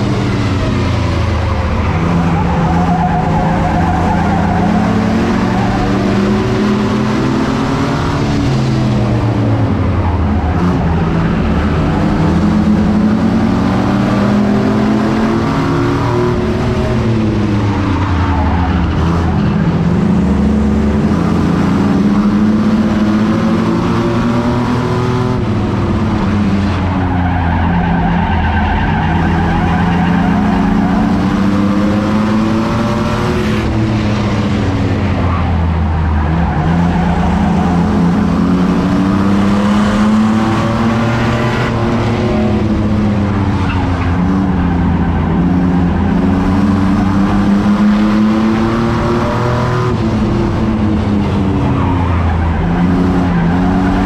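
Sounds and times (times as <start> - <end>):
road and wind noise: 0.0 - 54.0
truck engine running hard: 0.0 - 54.0.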